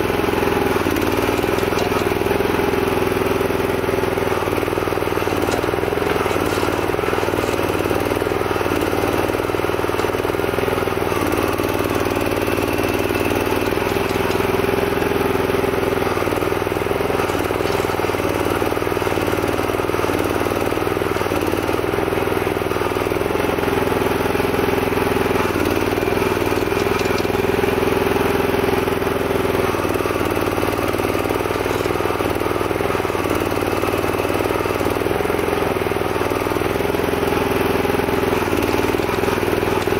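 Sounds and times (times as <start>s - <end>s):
petrol engine running steadily: 0.0s - 39.9s.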